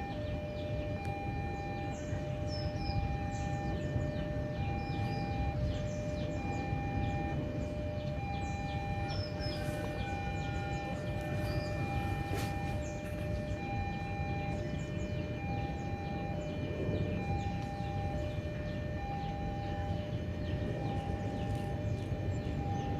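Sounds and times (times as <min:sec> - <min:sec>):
birds chirping: 0:00.0 - 0:22.9
two-tone electronic warning tone: 0:00.0 - 0:22.9.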